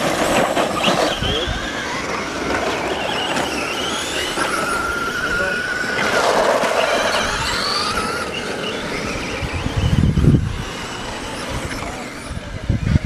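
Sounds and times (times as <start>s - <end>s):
radio-controlled truck motors whining: 0.0s - 13.0s.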